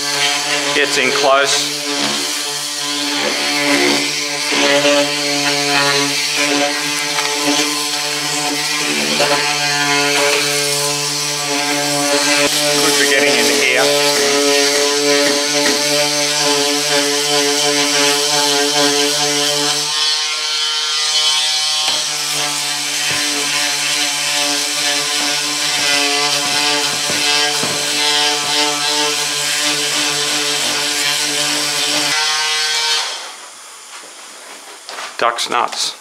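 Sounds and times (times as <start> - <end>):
oscillating multi-tool buzzing: 0.0 - 33.4.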